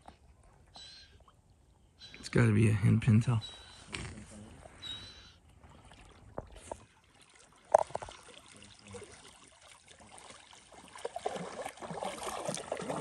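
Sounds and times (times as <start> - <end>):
water sloshing and trickling: 0.0 - 2.4, 3.6 - 13.0.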